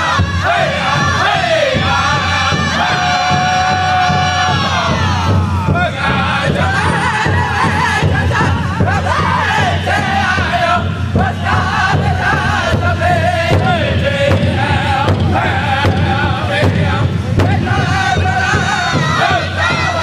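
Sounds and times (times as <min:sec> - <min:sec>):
large drum beating: 0:00.0 - 0:20.0
men singing in high voices: 0:00.0 - 0:20.0.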